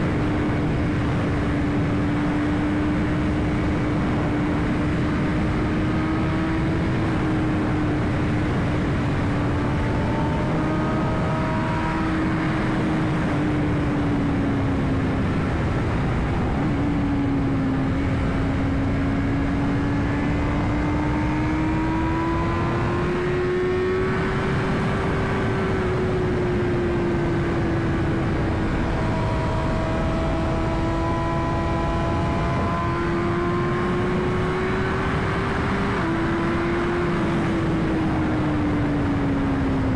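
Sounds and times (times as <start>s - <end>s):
motorcycle engine cruising: 0.0s - 39.9s
wind rush: 0.0s - 39.9s.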